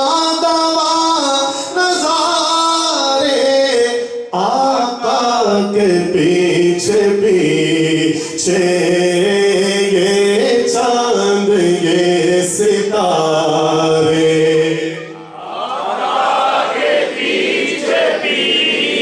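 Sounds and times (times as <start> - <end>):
man singing unaccompanied: 0.0 - 15.2.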